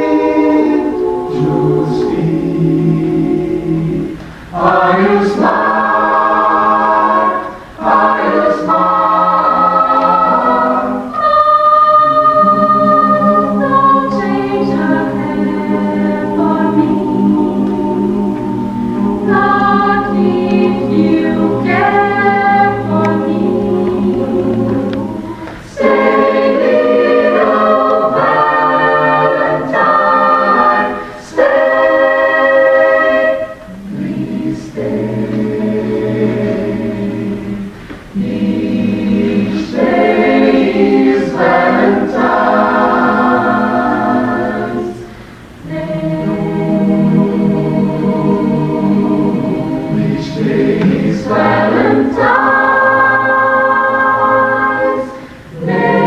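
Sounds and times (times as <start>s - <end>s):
choir singing sustained chords: 0.0s - 56.0s.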